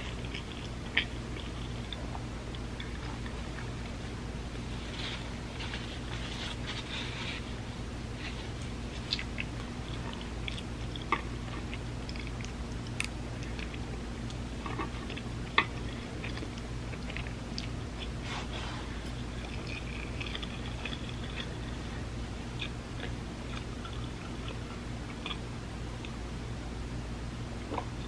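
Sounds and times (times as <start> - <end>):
person chewing close up: 0.0 - 25.4, 27.6 - 28.0
steady low hum: 0.0 - 28.0.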